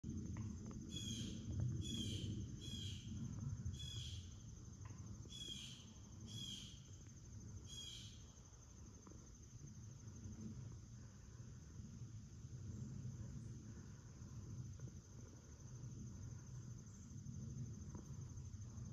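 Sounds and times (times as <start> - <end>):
insect trill: 0.0 - 18.9.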